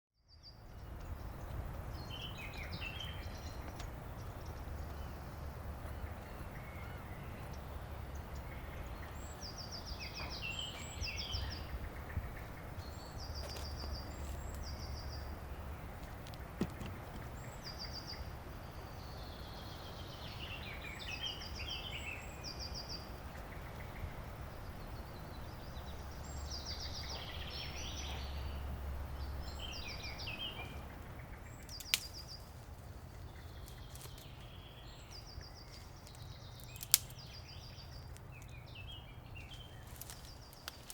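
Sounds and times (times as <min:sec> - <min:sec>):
steady low rumble: 0:00.4 - 0:20.8, 0:21.6 - 0:40.9.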